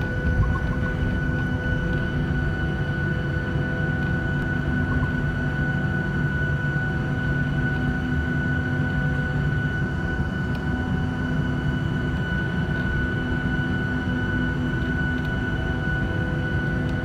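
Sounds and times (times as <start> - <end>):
jet engine cabin rumble and whine: 0.0 - 17.0.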